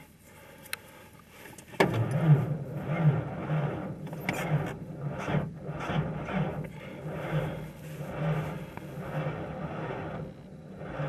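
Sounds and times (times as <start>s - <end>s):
engine starting: 1.4s - 11.0s
starter cranking engine: 1.4s - 11.0s.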